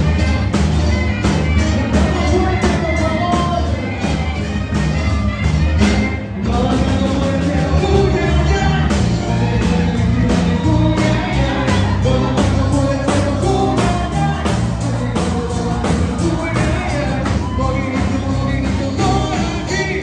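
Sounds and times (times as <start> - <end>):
live band dance music: 0.0 - 20.0.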